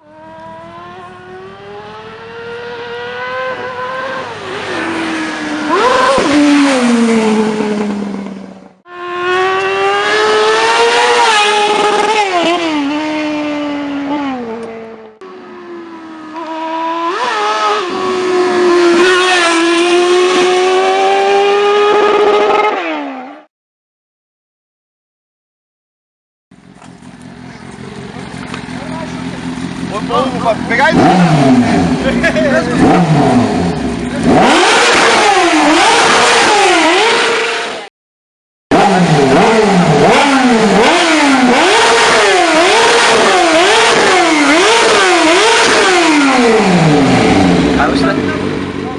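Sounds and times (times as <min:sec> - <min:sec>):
motorcycle engine revving: 0:00.0 - 0:23.5, 0:26.6 - 0:37.9, 0:38.7 - 0:48.9.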